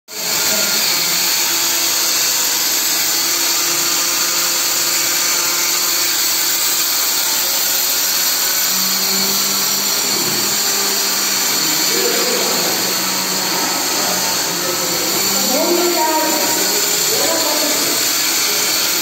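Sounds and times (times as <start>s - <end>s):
electric power tool running: 0.1s - 19.0s.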